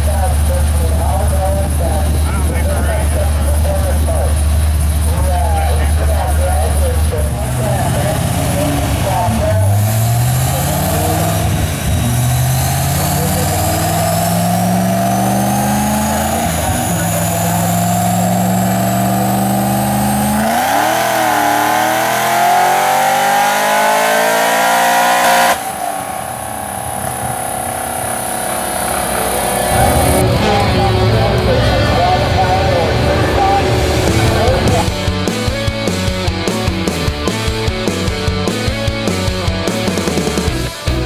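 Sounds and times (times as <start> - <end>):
dyno rollers coasting: 0.0 - 40.9
car engine at full throttle: 0.0 - 41.0
high whine: 0.0 - 41.0.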